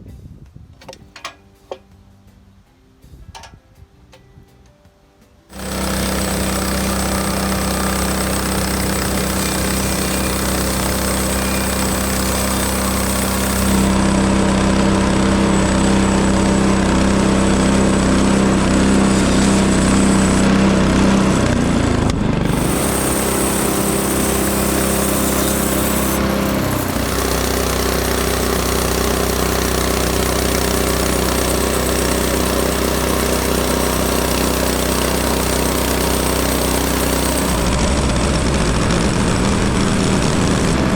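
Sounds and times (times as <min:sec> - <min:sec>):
small gasoline engine running: 0:05.5 - 0:40.9.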